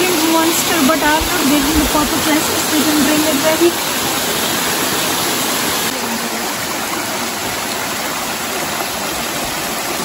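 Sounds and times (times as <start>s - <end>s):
stream flowing over rocks: 0.0s - 10.0s.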